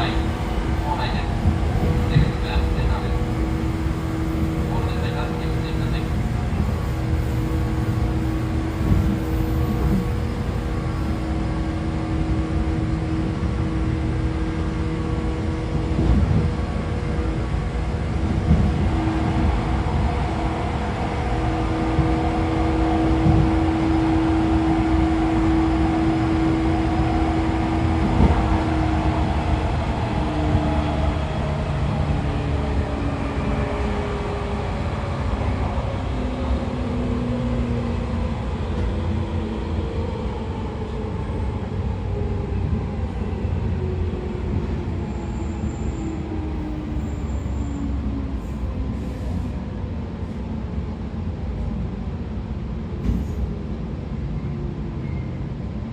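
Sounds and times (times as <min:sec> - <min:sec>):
electric train rumbling ride: 0:00.0 - 0:55.9.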